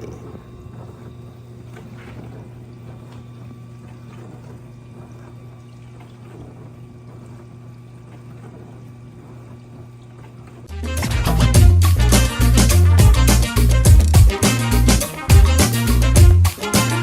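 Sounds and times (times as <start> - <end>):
dishwasher motor hum: 0.0 - 17.0.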